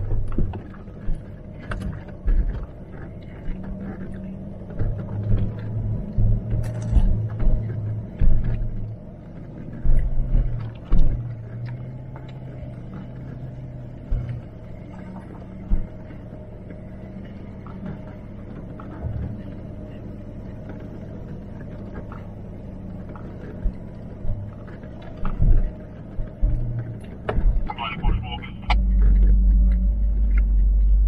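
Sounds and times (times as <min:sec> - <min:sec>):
diesel engine hum inside cabin: 0:00.0 - 0:31.0.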